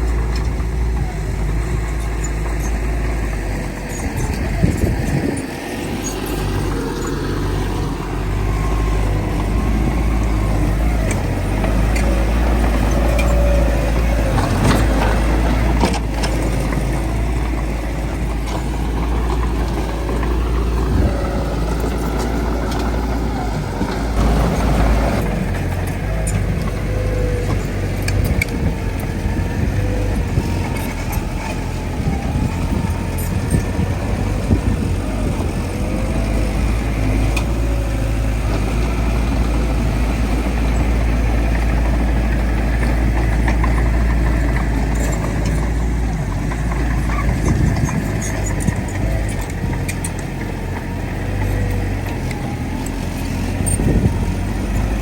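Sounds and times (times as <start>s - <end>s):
diesel machinery engine rumble: 0.0s - 55.0s.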